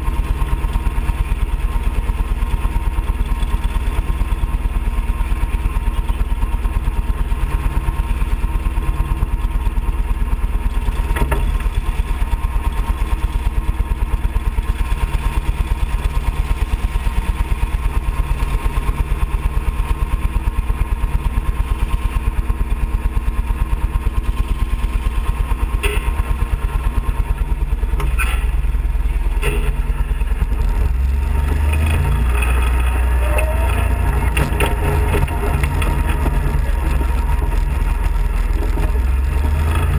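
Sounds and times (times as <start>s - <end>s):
small kart engine idling: 0.0s - 39.9s.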